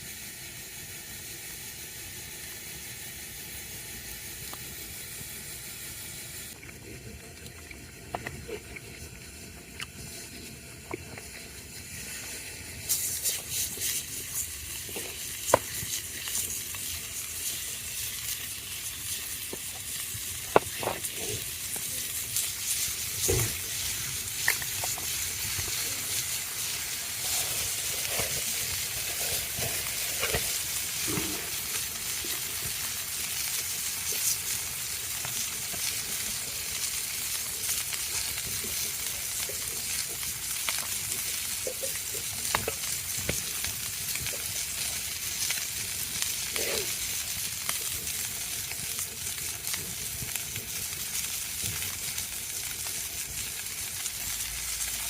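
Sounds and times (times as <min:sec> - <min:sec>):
food sizzling in a pan: 0:00.0 - 0:07.0, 0:07.8 - 0:55.0.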